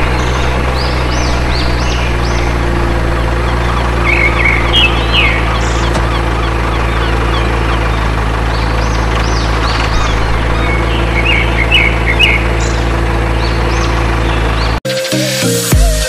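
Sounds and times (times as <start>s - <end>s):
tractor engine droning: 0.0s - 14.8s
birds chirping: 0.0s - 16.0s.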